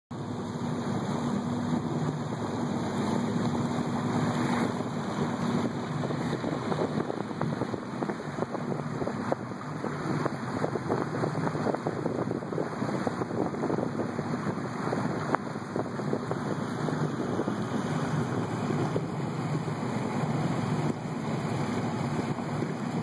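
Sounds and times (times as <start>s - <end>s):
boat motor humming: 0.1s - 23.0s
water splashing: 0.2s - 23.0s
wind buffeting microphone: 0.3s - 23.0s.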